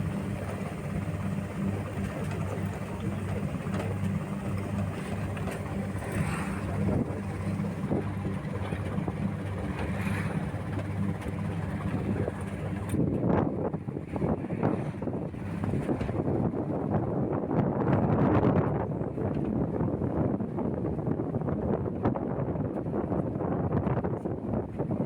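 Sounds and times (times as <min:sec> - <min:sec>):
low engine drone: 0:00.0 - 0:21.3.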